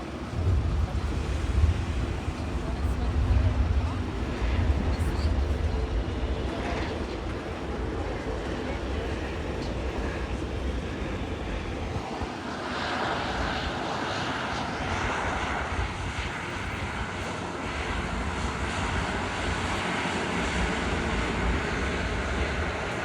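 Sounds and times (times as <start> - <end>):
jet airliner engines: 0.0 - 23.0.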